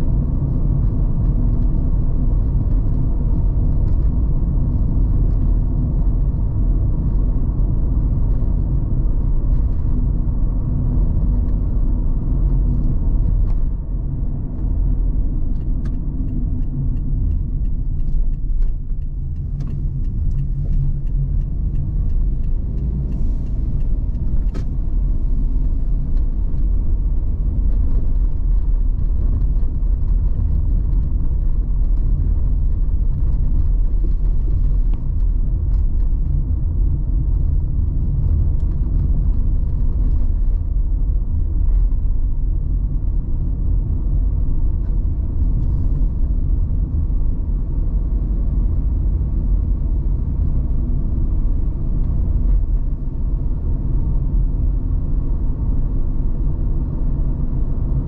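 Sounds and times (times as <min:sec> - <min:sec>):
car road rumble and engine hum: 0:00.0 - 0:58.0.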